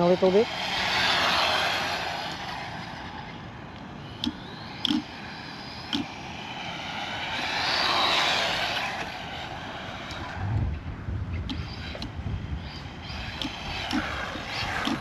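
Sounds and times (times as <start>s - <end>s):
rc car motor whine and tyre noise: 0.0s - 15.0s.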